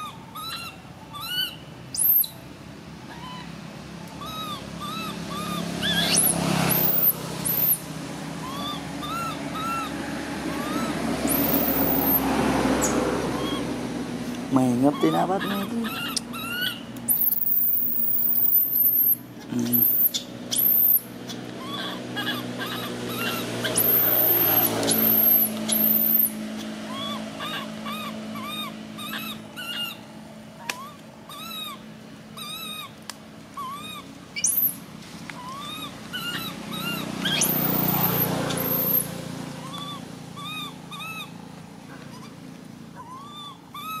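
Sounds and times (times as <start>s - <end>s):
monkey whimper calls: 0.0s - 2.4s, 3.0s - 13.8s, 14.6s - 44.0s
baby monkey screaming: 0.0s - 13.9s, 14.5s - 41.4s, 42.1s - 44.0s.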